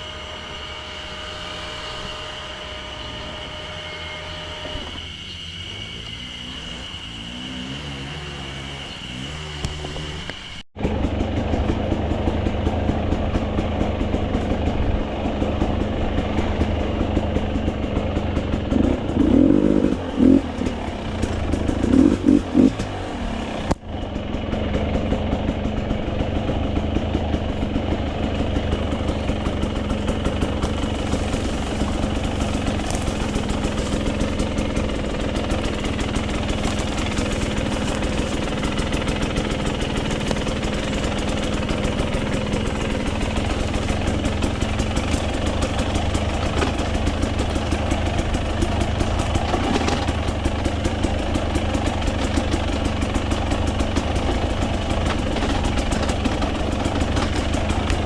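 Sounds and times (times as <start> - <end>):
dirt bike engine revving: 0.0 - 58.0
clatter: 9.6 - 58.0.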